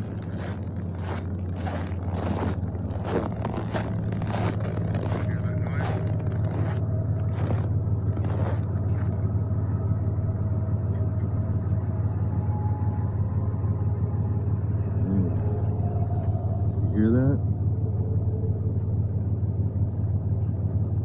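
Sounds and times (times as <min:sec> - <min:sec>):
low rumbling drone from sky: 0:00.0 - 0:21.0.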